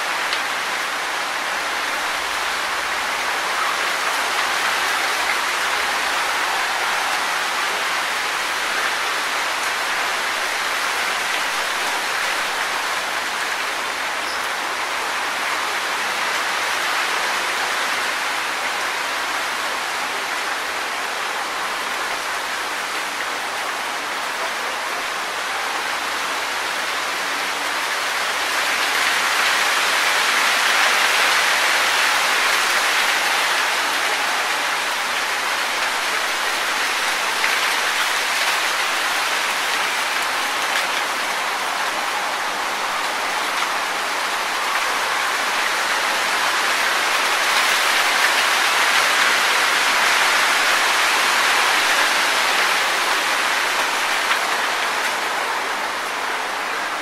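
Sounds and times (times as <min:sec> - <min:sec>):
wind rustling tree leaves: 0:00.0 - 0:57.0.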